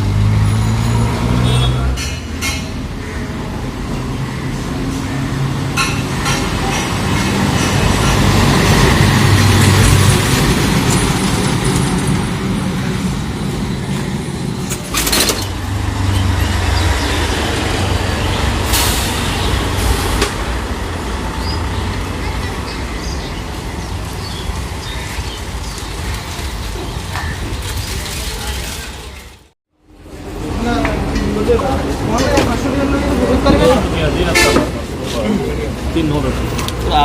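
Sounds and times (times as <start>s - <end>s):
heavy truck engine rumbling: 0.0s - 37.0s
traffic: 0.0s - 37.0s.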